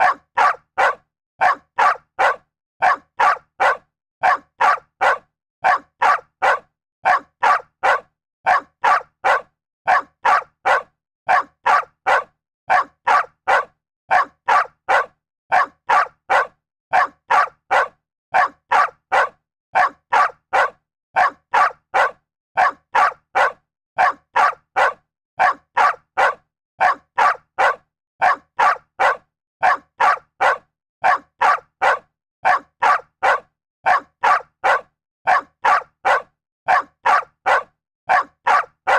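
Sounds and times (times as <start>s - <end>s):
dog barking: 0.0s - 38.9s.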